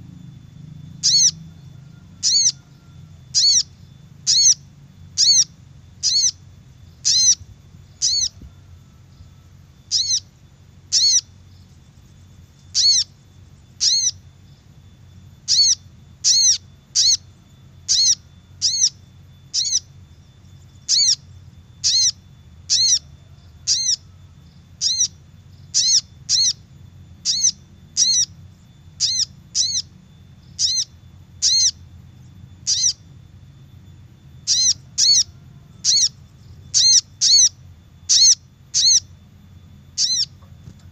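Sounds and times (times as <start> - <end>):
faint low hum: 0.0 - 40.9.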